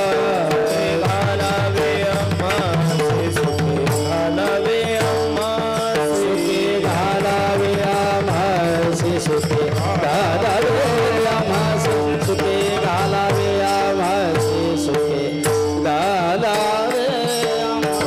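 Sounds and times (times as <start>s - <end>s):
fast hand drum beat: 0.0s - 16.0s.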